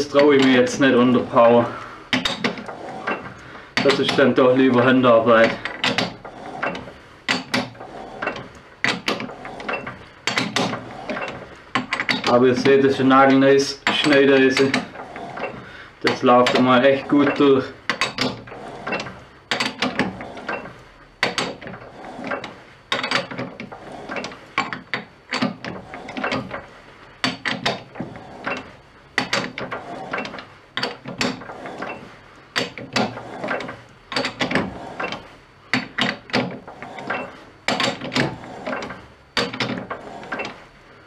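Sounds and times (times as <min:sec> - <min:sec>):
lathe gears clicking and clunking: 0:00.0 - 0:41.0.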